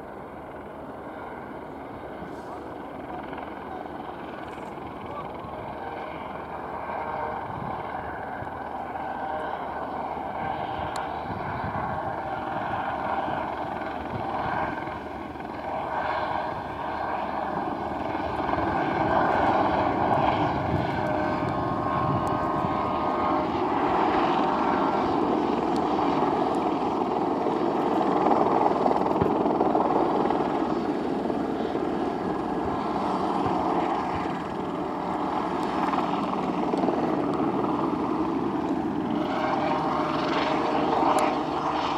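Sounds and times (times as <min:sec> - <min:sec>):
helicopter engine and rotors: 0:00.0 - 0:41.9.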